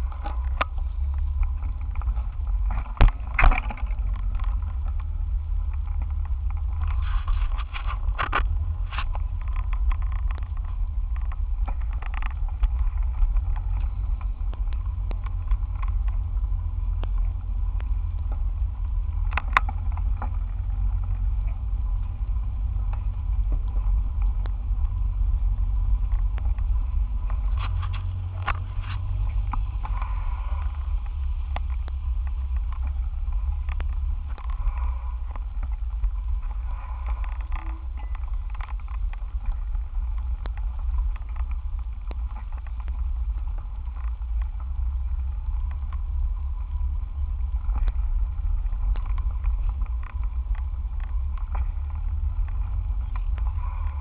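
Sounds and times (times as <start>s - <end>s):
bicycle ride rumble: 0.0s - 54.0s
bike rattling clicks and knocks: 0.0s - 54.0s.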